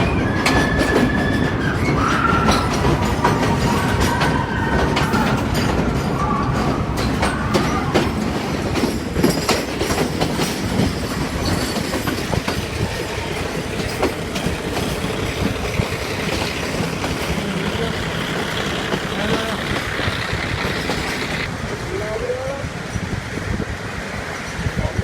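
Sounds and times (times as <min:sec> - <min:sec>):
wheels clicking over rail joints: 0:00.0 - 0:21.9
train rumbling along track: 0:00.0 - 0:25.0.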